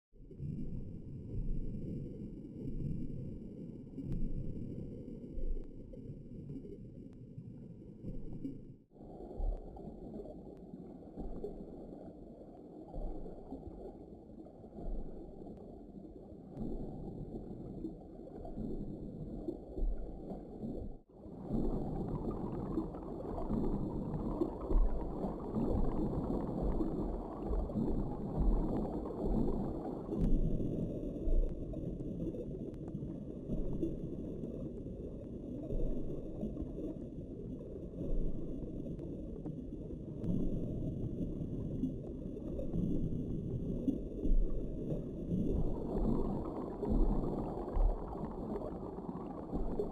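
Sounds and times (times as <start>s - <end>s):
muffled underwater rush: 0.2s - 49.9s.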